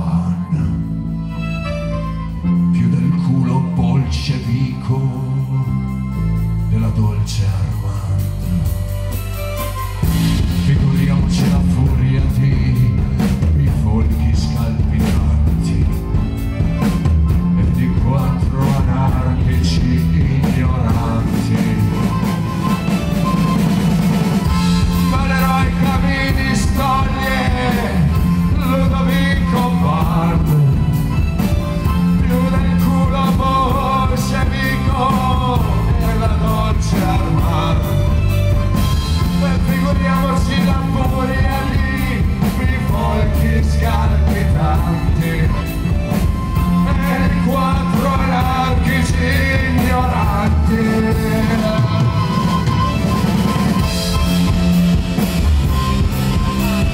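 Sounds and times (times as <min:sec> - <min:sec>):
accordion: 0:00.0 - 0:56.9
electric bass: 0:00.0 - 0:56.9
live rock band playing: 0:00.0 - 0:56.9
sustained melody line: 0:00.0 - 0:56.9
steady drumming: 0:07.3 - 0:56.9.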